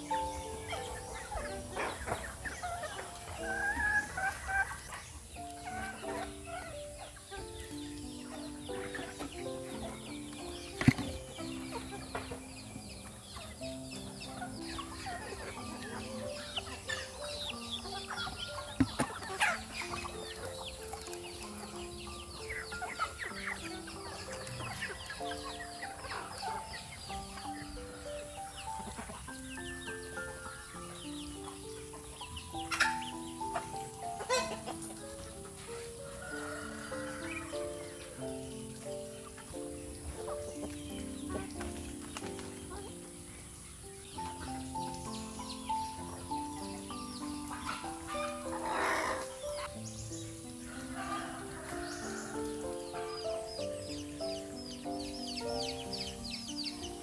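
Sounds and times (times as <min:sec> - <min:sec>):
background music with held notes: 0:00.0 - 0:57.0
chickens clucking: 0:00.0 - 0:57.0.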